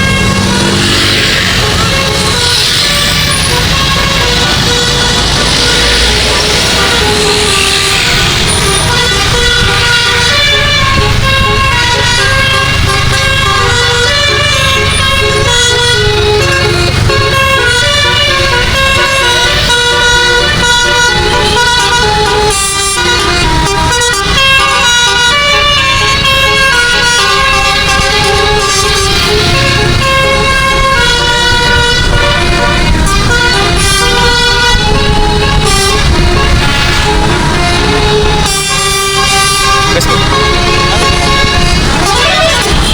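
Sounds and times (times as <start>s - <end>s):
bus engine rumble: 0.0s - 42.9s
musical air horn playing a tune: 0.0s - 42.9s.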